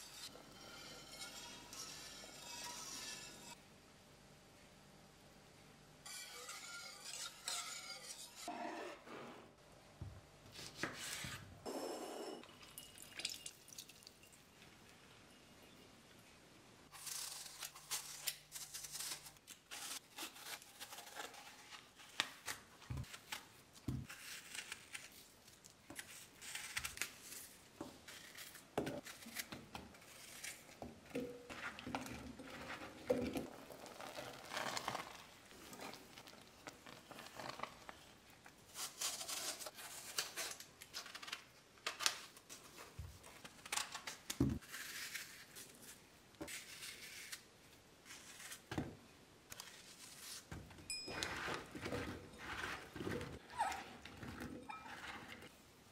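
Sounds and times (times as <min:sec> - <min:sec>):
knife scraping and slicing apples: 0:00.0 - 0:03.6, 0:06.0 - 0:09.4, 0:10.5 - 0:12.5, 0:16.9 - 0:48.9, 0:49.5 - 0:55.6.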